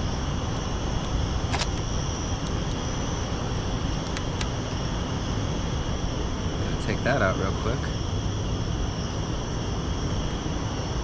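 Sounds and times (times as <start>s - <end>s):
high-pitched hum: 0.0s - 11.0s.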